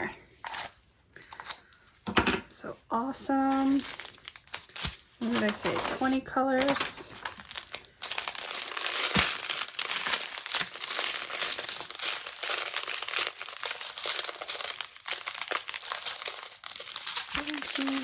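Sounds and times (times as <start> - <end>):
thin plastic crinkling: 3.3 - 18.0.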